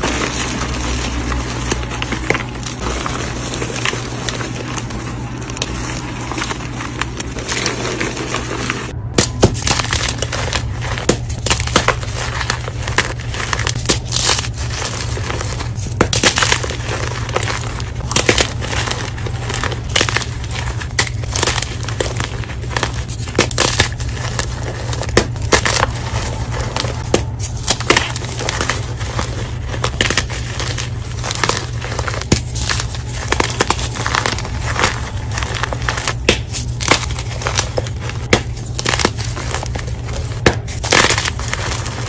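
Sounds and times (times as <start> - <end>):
chalk crunching: 0.0 - 42.0
crisp cracks: 0.0 - 42.0.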